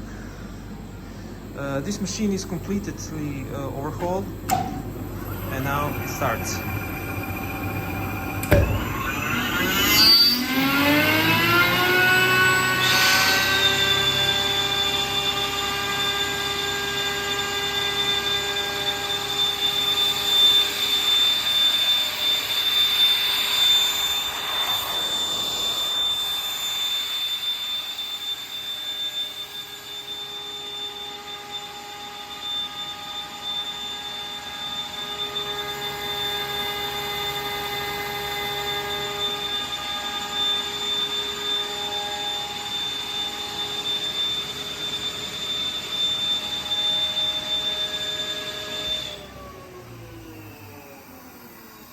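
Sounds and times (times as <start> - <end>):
air compressor drone and whine: 0.0 - 51.9.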